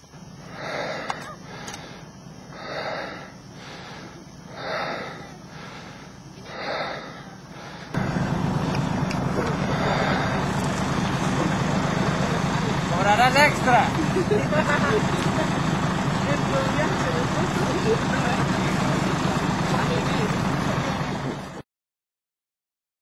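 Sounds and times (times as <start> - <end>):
bus engine idling: 0.0 - 21.6.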